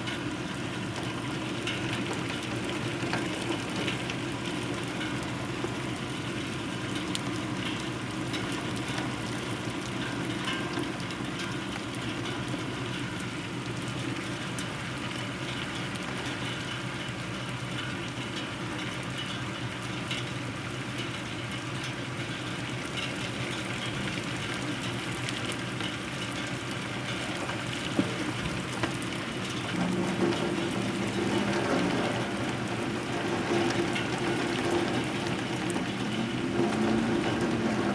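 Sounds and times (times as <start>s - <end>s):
hard rain falling: 0.0s - 37.9s.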